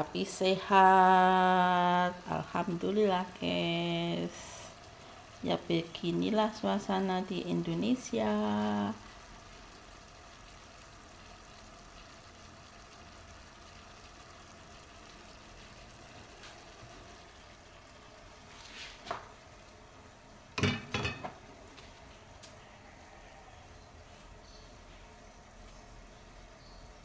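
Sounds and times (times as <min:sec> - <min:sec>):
food sizzling in a pan: 0:00.0 - 0:25.4.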